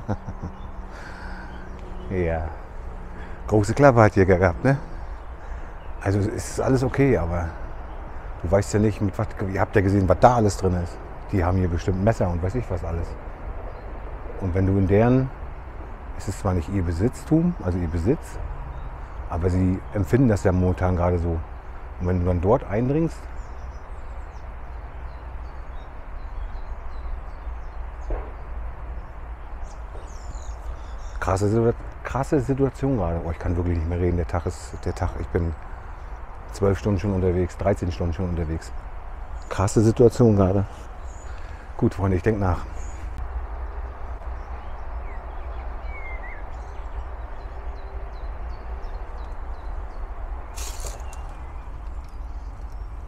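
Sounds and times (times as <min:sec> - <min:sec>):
faint birds chirping: 0:00.0 - 0:53.0.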